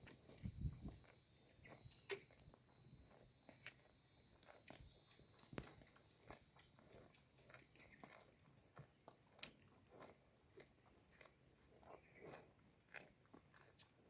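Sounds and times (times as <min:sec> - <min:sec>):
soft chewing: 0:00.0 - 0:14.0.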